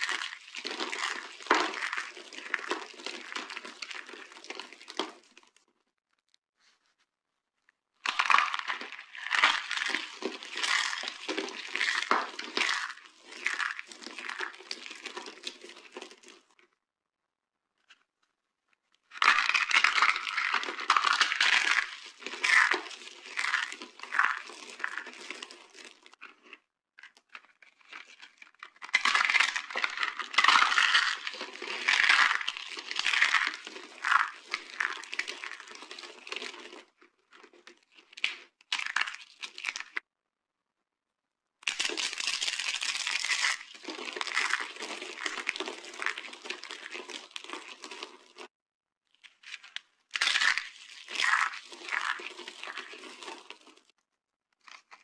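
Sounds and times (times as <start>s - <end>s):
dry soap chips crunching by hand: 0.0s - 5.7s, 8.0s - 16.7s, 19.1s - 40.0s, 41.6s - 48.5s, 49.2s - 54.0s, 54.6s - 55.0s.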